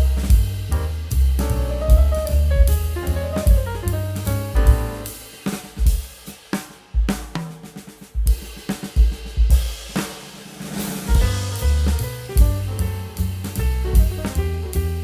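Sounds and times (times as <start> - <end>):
drum kit hits: 0.0 - 7.6, 8.3 - 15.0.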